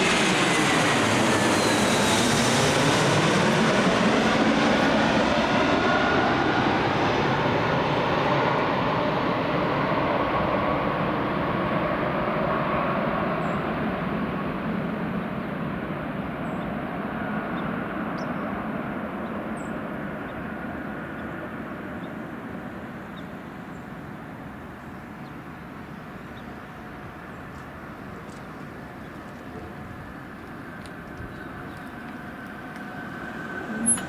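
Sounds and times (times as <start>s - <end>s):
jet engine rumble: 0.0s - 34.0s.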